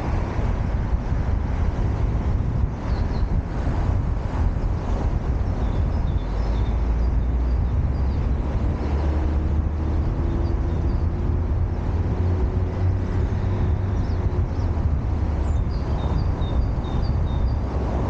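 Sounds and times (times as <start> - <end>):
faint engine hum: 0.0 - 18.0
traffic rumble and tyre noise: 0.0 - 18.0.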